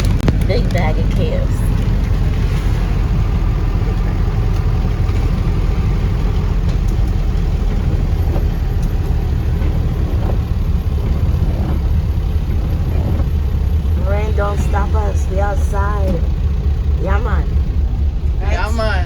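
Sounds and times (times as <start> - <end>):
car engine rumble from inside: 0.0 - 19.0.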